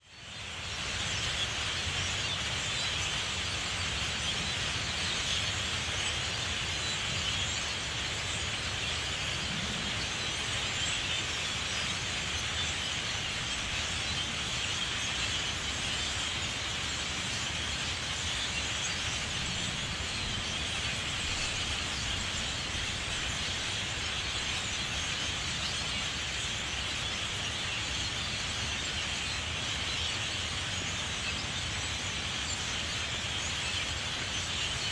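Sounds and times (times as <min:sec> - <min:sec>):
chorus of birds calling: 0:00.0 - 0:34.9.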